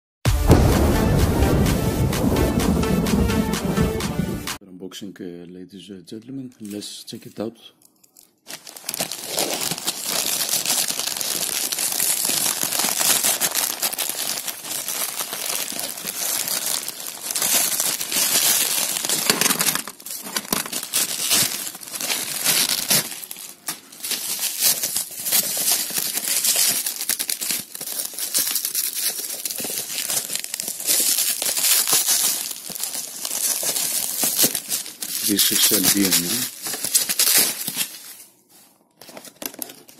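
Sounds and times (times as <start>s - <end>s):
crinkly packaging rustling: 6.6s - 39.9s.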